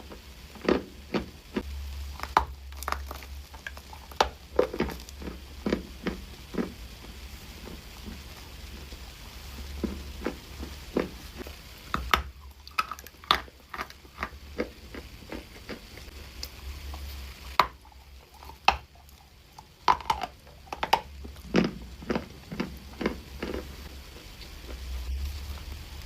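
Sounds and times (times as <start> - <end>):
dry clay crunching and cracking: 0.0 - 9.0, 9.7 - 25.8.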